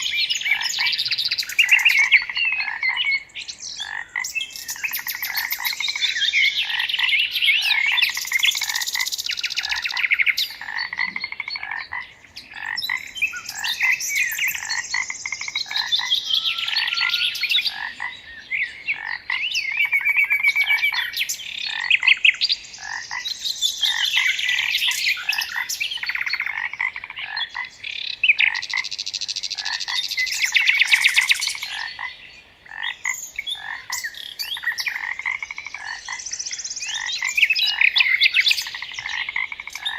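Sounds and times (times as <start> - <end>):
frogs croaking: 0.0 - 39.9
songbirds singing: 0.0 - 39.9.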